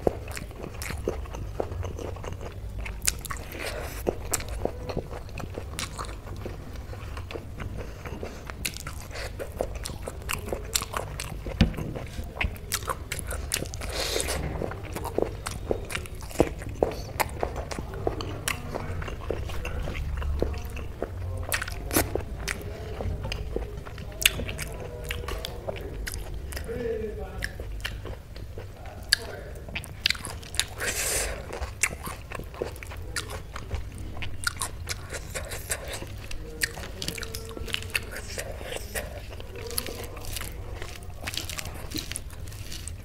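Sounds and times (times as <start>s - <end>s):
chewing with wet mouth clicks: 0.0s - 43.0s
low steady hum: 0.0s - 43.0s.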